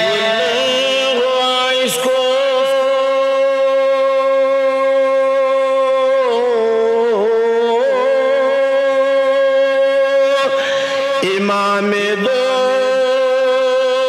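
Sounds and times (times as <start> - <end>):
man singing long vowel: 0.0 - 14.0.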